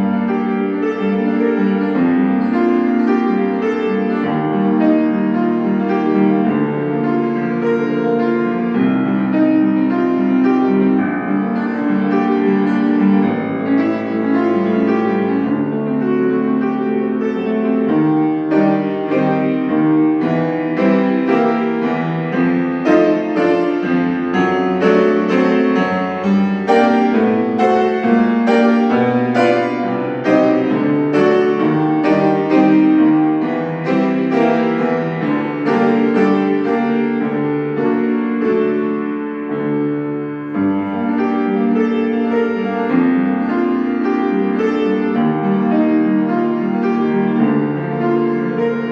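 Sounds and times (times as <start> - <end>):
solo classical piano: 0.0 - 48.9.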